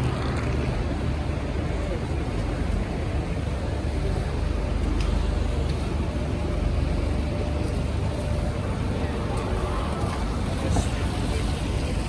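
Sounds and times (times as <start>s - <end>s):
road traffic on wet street: 0.0s - 12.0s.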